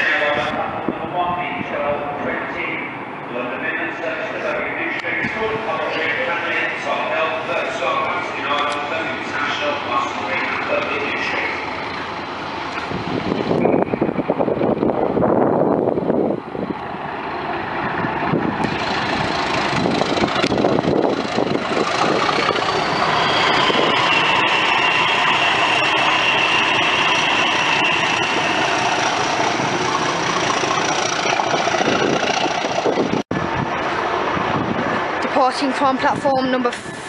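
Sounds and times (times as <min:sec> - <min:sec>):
diesel locomotive engines: 0:00.0 - 0:37.0.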